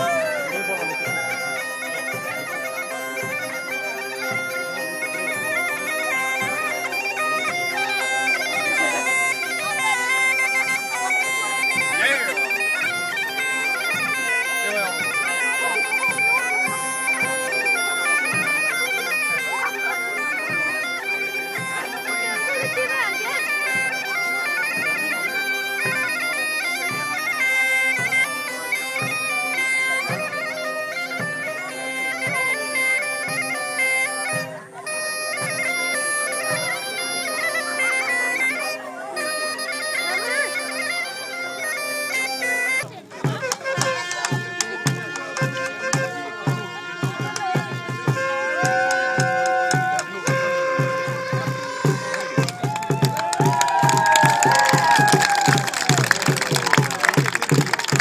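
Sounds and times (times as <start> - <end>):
bagpipe melody over drones: 0.0 - 58.0.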